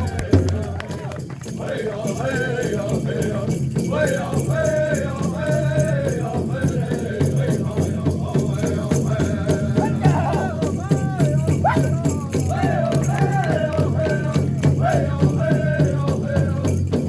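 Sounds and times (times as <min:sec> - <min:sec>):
group singing: 0:00.0 - 0:17.0
rattle on the beat: 0:00.0 - 0:17.0
steady drumbeat: 0:00.0 - 0:17.0.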